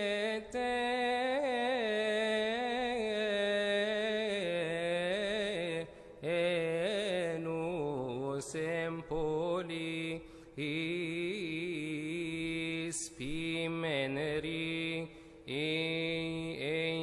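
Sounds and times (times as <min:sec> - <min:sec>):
man chanting a hymn: 0:00.0 - 0:17.0.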